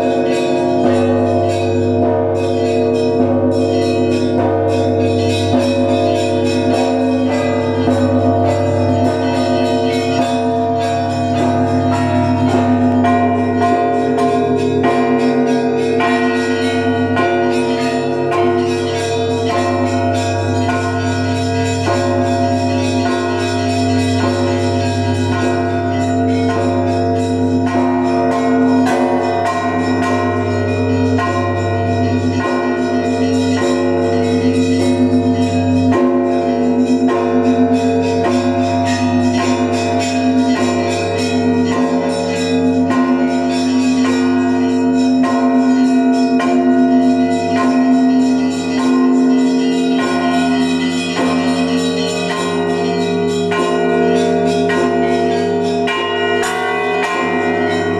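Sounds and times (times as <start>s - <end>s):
deep bells ringing: 0.0s - 57.9s.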